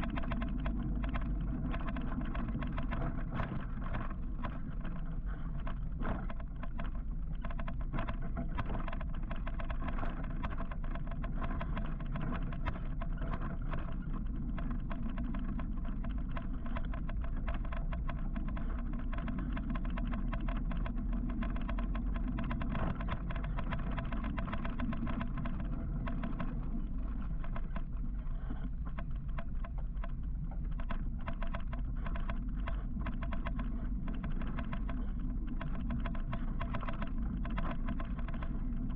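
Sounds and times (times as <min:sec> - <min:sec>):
road and wind noise: 0:00.0 - 0:38.9
small clicks and rattles: 0:00.0 - 0:38.9.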